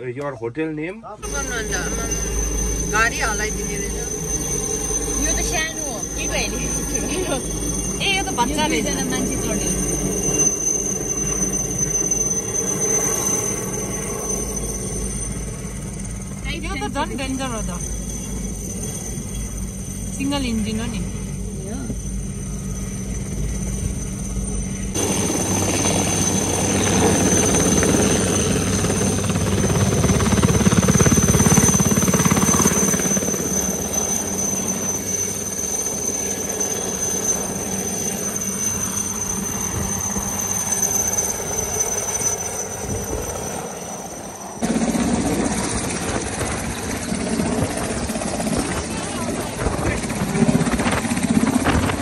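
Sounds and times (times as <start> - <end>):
helicopter turbine whine: 0.4 - 52.0
helicopter rotor noise: 1.2 - 52.0.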